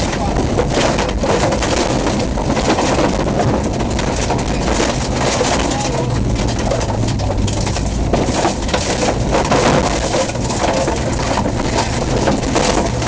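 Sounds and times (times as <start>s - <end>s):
vehicle body rattling and knocking: 0.0s - 13.0s
vehicle engine running: 0.0s - 13.0s.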